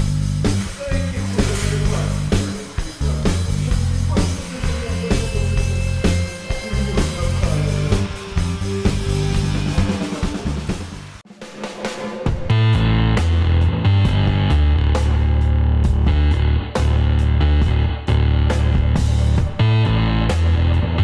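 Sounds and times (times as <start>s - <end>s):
music with drum beat and bass: 0.0s - 21.0s.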